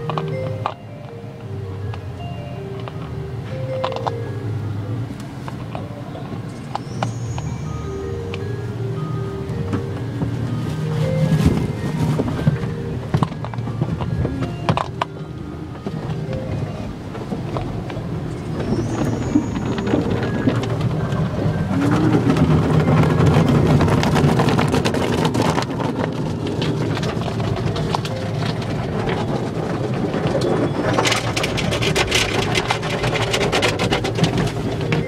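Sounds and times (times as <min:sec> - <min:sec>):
car wash machinery running: 0:00.0 - 0:35.0.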